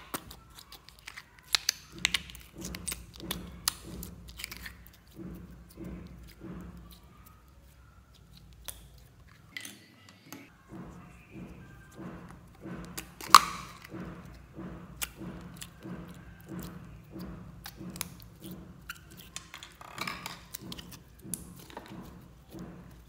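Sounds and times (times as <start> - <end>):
slime squishing and crackling: 0.0 - 9.6, 11.8 - 23.0.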